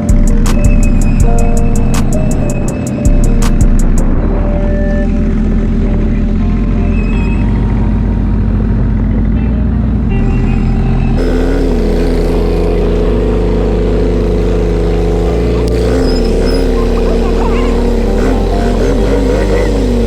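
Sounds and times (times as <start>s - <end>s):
music with heavy bass line: 0.0s - 20.0s
vehicle engine running: 0.0s - 20.0s.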